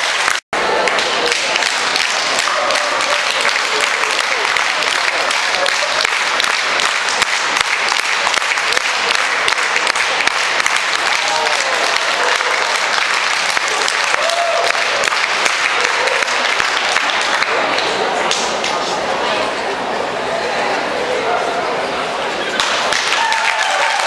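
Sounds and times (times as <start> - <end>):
audience clapping: 0.0 - 18.8, 22.6 - 24.0.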